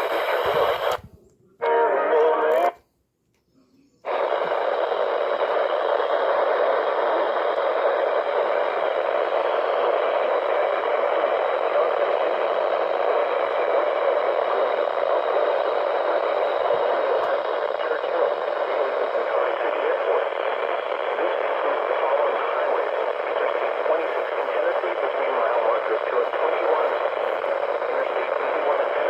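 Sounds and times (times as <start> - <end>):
radio static hiss: 0.0 - 2.8, 4.0 - 29.0.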